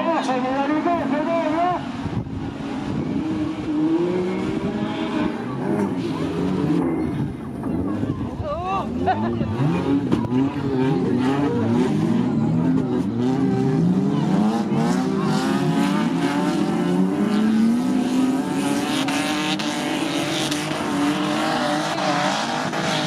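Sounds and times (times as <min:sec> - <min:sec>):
racing car engines revving: 0:00.0 - 0:23.0.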